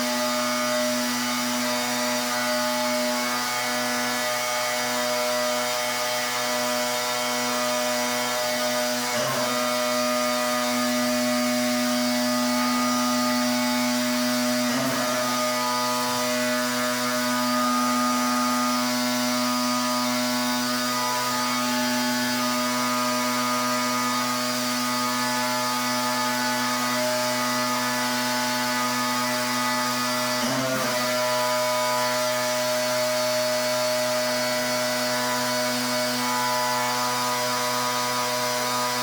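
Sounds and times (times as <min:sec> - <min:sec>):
pressure washer motor droning: 0:00.0 - 0:39.0.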